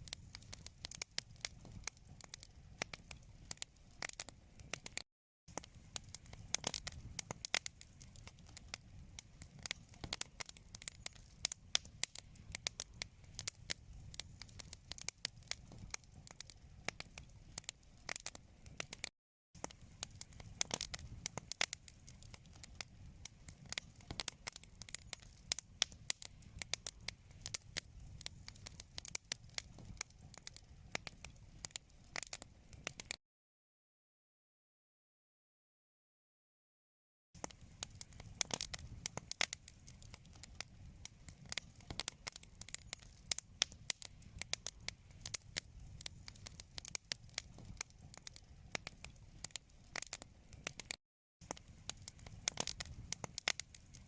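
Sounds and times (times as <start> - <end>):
wood fire crackling: 0.0 - 33.2, 37.4 - 54.0.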